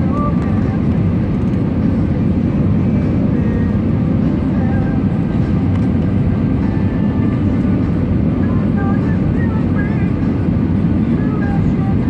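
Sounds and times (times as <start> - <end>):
airplane cabin airflow and engine hum: 0.0 - 12.0.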